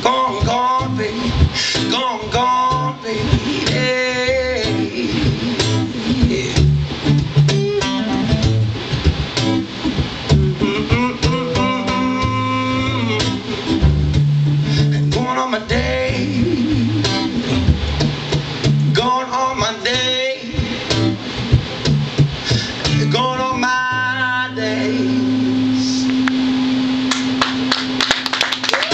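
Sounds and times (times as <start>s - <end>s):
guitar strummed chords and lead: 0.0s - 28.0s.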